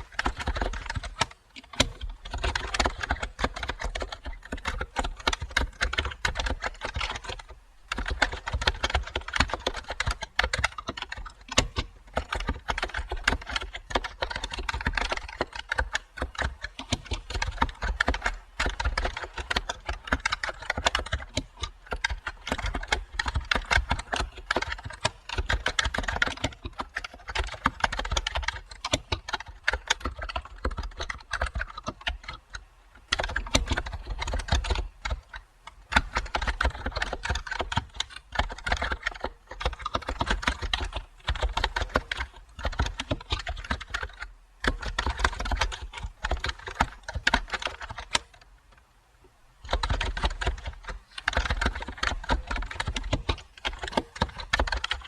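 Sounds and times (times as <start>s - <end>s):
typing on computer keyboard: 0.0s - 48.4s, 49.6s - 55.0s.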